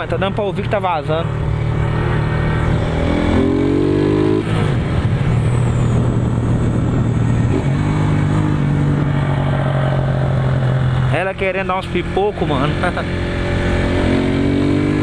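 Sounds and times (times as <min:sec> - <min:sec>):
motorcycle engine revving: 0:00.9 - 0:15.0.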